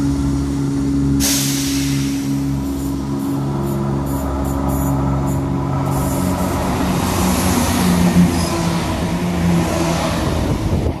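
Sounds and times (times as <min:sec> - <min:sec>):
diesel train engine: 0:00.0 - 0:11.0
wheels rumbling on rails: 0:00.0 - 0:11.0.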